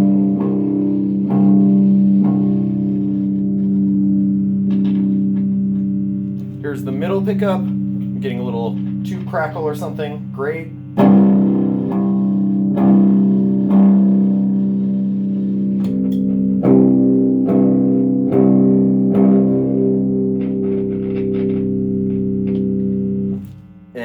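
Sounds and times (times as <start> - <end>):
clean electric guitar chords: 0.0 - 24.0
picked guitar notes: 0.0 - 24.0.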